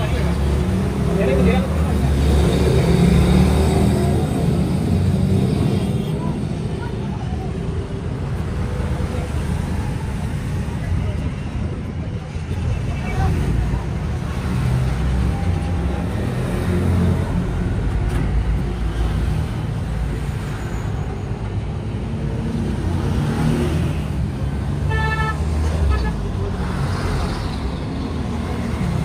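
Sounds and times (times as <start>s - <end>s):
vehicle engines rumbling: 0.0s - 29.0s.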